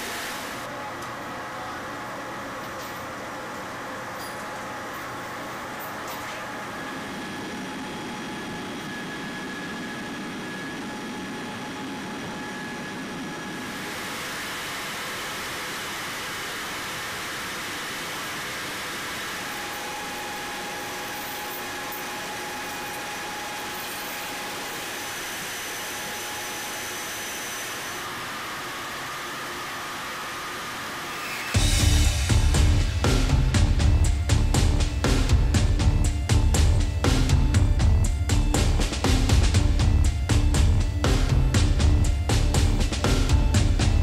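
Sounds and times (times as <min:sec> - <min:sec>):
mechanical hiss and hum: 0:00.0 - 0:44.0.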